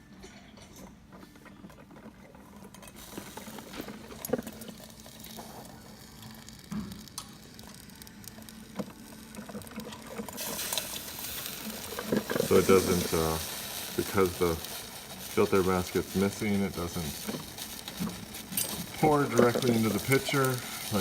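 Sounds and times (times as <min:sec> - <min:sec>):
coffee maker sputtering and bubbling: 0:00.0 - 0:21.0.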